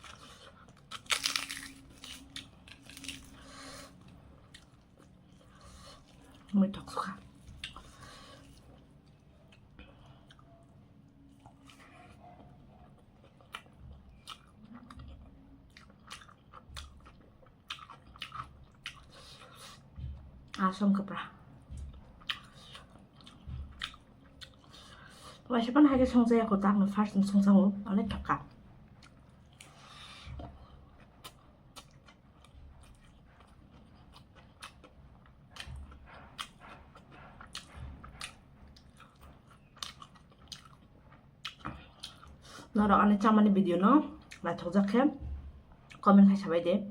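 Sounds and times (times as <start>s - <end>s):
person chewing food: 0.0s - 20.6s, 21.7s - 25.4s, 28.9s - 42.7s.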